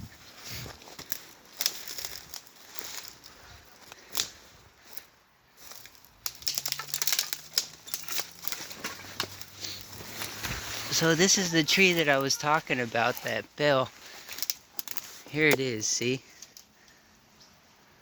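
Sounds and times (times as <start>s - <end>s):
grass crackling underfoot: 0.0s - 17.0s.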